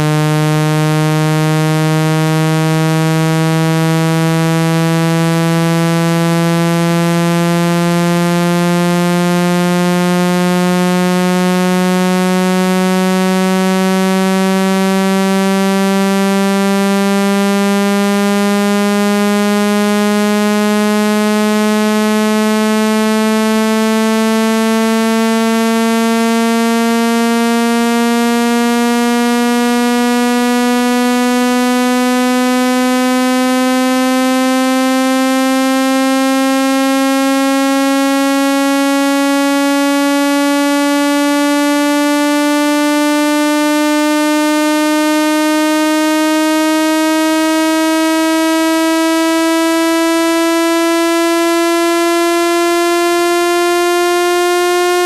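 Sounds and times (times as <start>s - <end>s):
buzzy synthesized tone rising: 0.0s - 55.0s.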